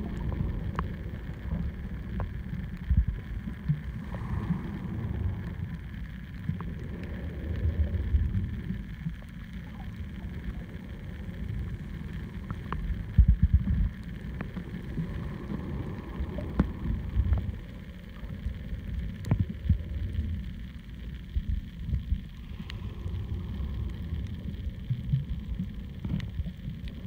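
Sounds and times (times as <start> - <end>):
muffled underwater rumble: 0.0 - 27.0.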